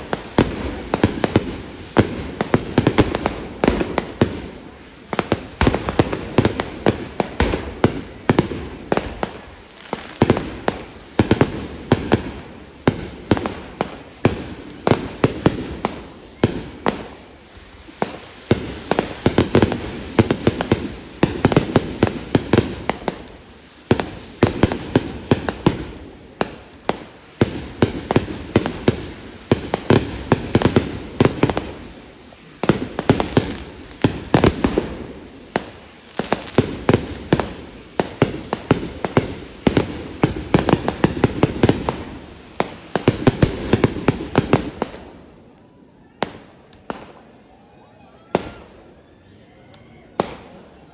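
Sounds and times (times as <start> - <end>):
fireworks bangs and cracks: 0.0 - 45.5, 46.1 - 47.3, 48.3 - 48.8, 50.2 - 50.9.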